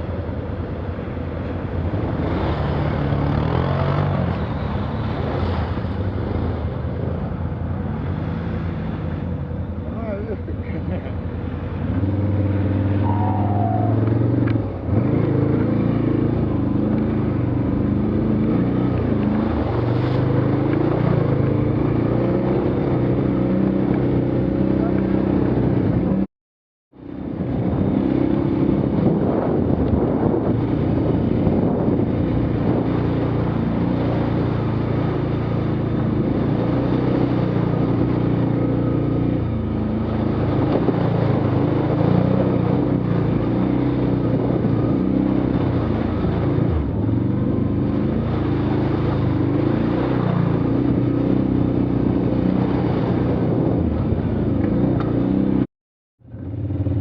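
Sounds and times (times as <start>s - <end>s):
off-road vehicle engine rumbling: 0.0s - 26.3s, 26.9s - 57.0s.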